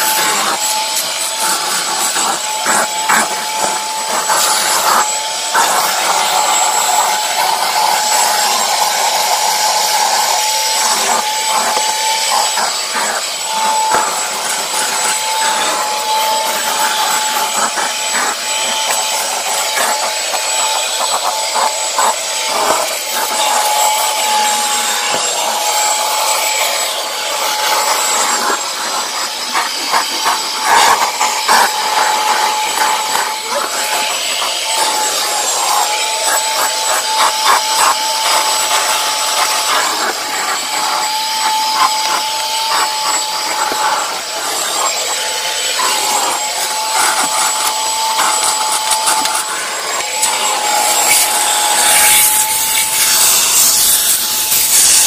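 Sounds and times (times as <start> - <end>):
vacuum cleaner running: 0.0 - 55.0
vacuum tool scraping carpet: 0.0 - 55.0.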